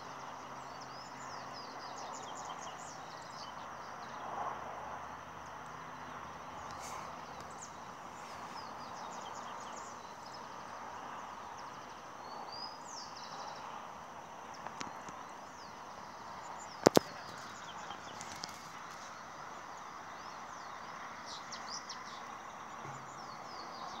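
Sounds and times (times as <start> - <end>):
small birds chirping: 0.0 - 4.3, 5.0 - 24.0
steady background hiss: 0.0 - 24.0.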